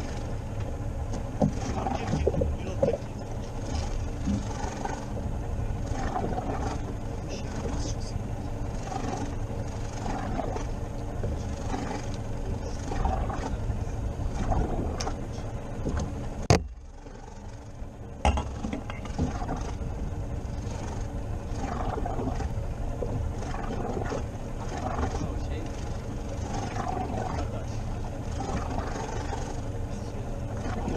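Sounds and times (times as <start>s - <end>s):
low hum: 0.0s - 30.9s
wind and sea noise: 0.0s - 30.9s.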